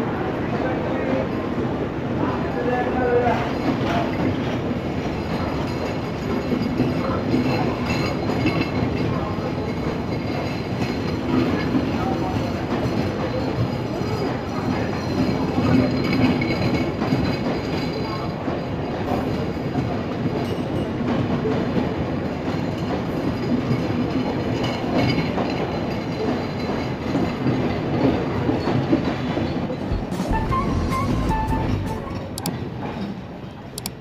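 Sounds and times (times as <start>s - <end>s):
train clatter: 0.0s - 34.0s
train wheels on rail: 0.0s - 34.0s.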